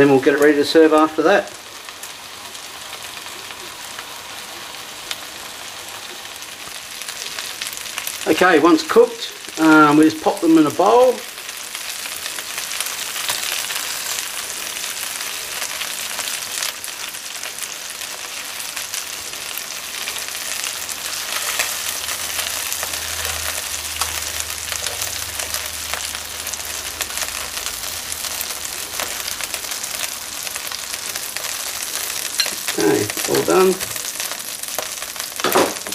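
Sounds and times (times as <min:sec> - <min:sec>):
chicken sizzling in a frying pan: 0:00.0 - 0:35.9.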